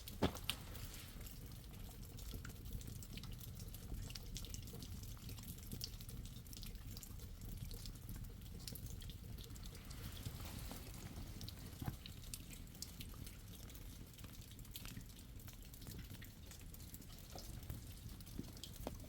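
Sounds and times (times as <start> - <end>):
water dripping: 0.0 - 19.0.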